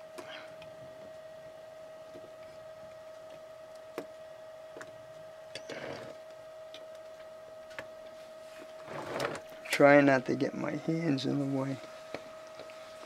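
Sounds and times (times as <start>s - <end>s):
steady faint hum: 0.0s - 13.0s.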